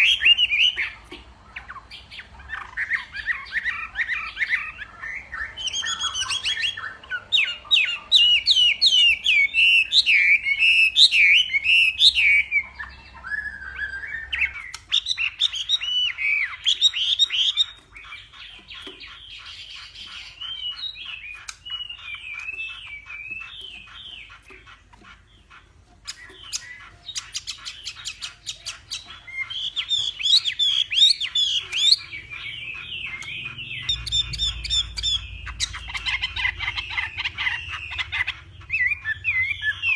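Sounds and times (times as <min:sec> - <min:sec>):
bird singing whistled song: 0:00.0 - 0:24.8, 0:26.0 - 0:39.9.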